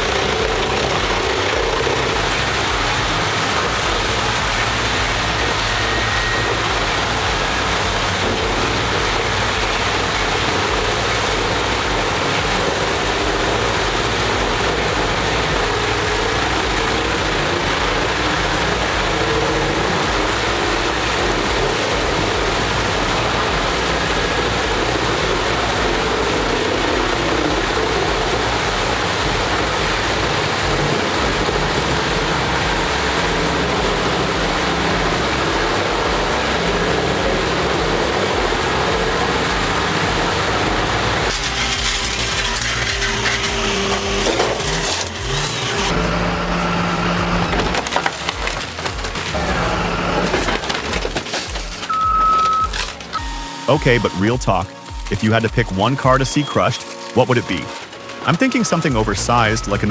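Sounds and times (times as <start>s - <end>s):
grinder running under load: 0.0s - 51.8s, 52.6s - 58.0s.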